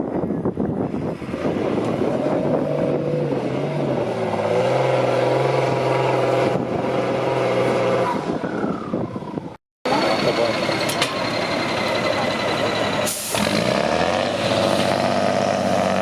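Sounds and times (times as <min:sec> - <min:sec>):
truck engine revving: 0:01.0 - 0:09.0, 0:09.9 - 0:16.0.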